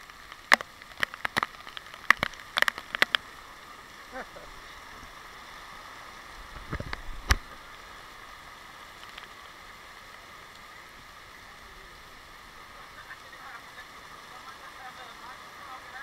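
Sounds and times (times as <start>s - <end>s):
muffled heavy rain: 0.0s - 16.0s.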